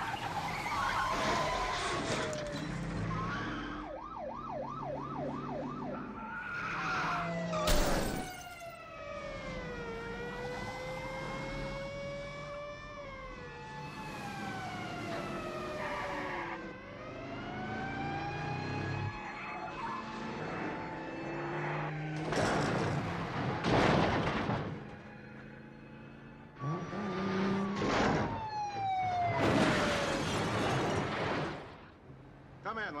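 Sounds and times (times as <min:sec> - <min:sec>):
police sirens: 0:00.0 - 0:31.1
car engines: 0:00.0 - 0:33.0.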